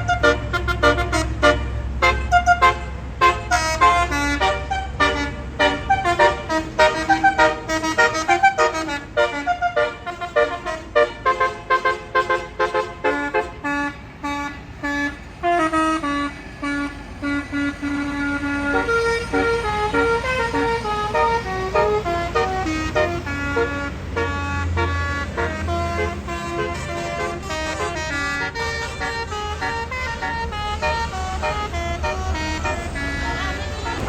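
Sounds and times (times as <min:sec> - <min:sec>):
bus engine low rumble: 0:00.0 - 0:34.0
bus horn playing a tune: 0:00.0 - 0:34.0.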